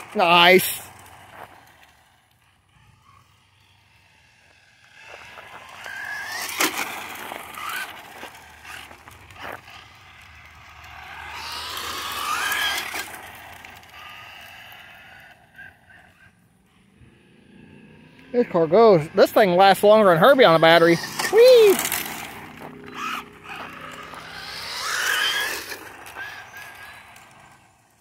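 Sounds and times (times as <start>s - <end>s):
electric motor whining: 0.0s - 28.0s
small tyres hissing on rough ground: 0.0s - 28.0s.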